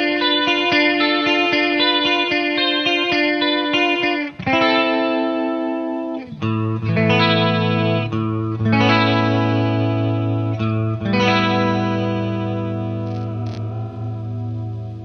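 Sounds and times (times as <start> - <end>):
electric guitar with chorus: 0.0 - 15.0.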